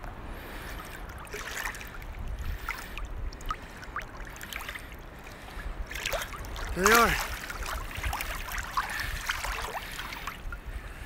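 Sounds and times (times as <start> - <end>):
seawater lapping: 0.0 - 11.0
water drips and splashes: 0.0 - 11.0.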